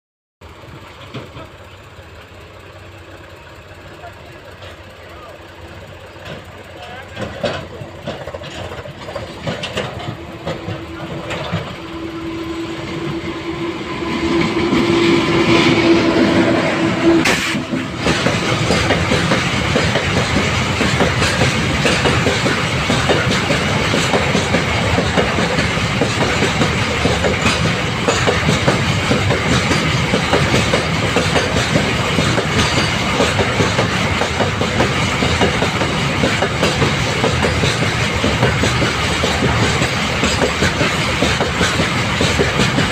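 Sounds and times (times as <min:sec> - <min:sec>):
long steady train tone: 0:00.4 - 0:42.9
train wheels clattering over rail joints: 0:00.5 - 0:02.4, 0:04.2 - 0:42.9.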